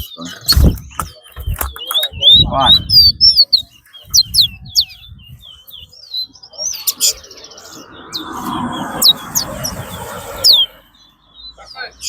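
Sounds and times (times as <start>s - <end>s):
songbirds chirping: 0.0s - 12.0s
loud buzzy bird trill: 1.8s - 12.0s.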